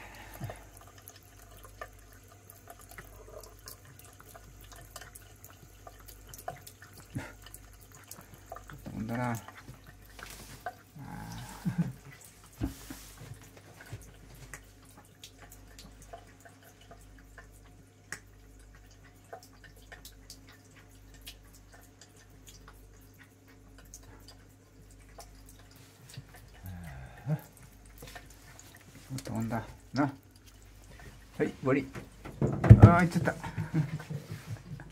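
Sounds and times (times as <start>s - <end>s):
faint steady hum: 0.0s - 34.9s
water dripping into sink: 0.0s - 34.9s.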